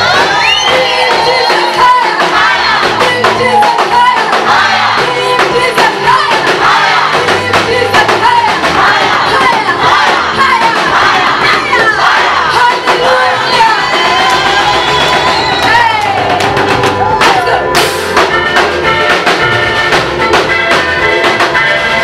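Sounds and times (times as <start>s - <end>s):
choir singing gospel music: 0.0s - 22.0s.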